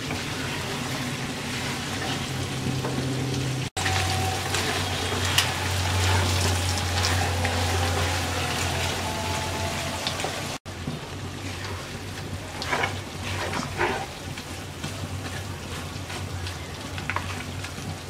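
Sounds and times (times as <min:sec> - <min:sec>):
wooden spatula scraping: 0:00.0 - 0:02.6, 0:03.7 - 0:10.6, 0:11.4 - 0:18.0
meat sizzling in oil: 0:00.0 - 0:18.0.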